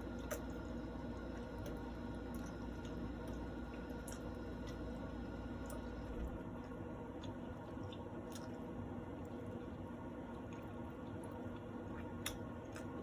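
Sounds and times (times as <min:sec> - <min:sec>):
low background hum: 0:00.0 - 0:13.0
wet chewing and mouth clicks: 0:00.0 - 0:13.0.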